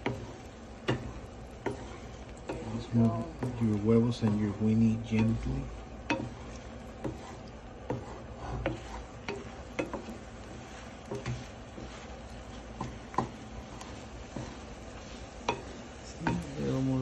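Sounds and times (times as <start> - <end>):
wooden spatula scraping a frying pan: 0.0 - 17.0.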